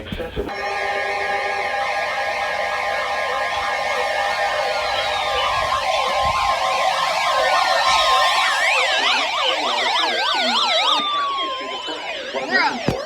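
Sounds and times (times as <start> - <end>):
electronic sirens sweeping: 0.0 - 13.0
long falling tones: 0.5 - 12.8.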